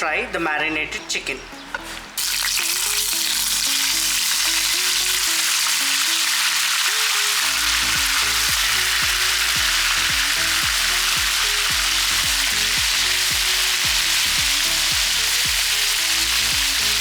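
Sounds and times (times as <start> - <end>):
background music with low beat: 0.0 - 5.6, 7.4 - 17.0
chicken sizzling in hot oil: 2.2 - 17.0.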